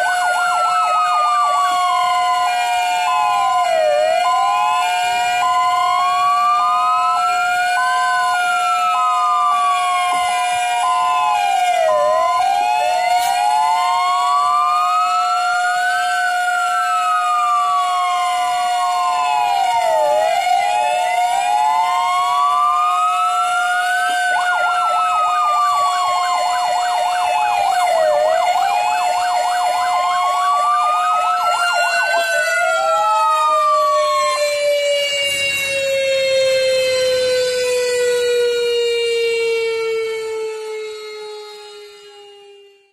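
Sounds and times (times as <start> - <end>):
fast siren yelp: 0.0 - 42.9
fire engine sirens wailing: 0.0 - 42.9
steady siren tone: 0.0 - 42.9.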